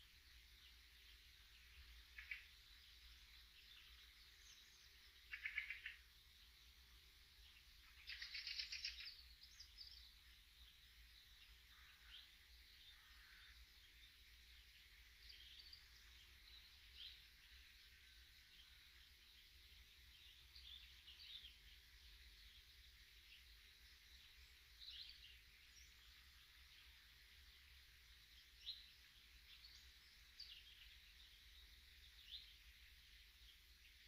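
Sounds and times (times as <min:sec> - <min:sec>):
distant songbirds chirping: 0:00.0 - 0:34.0
steady hiss: 0:00.0 - 0:34.0.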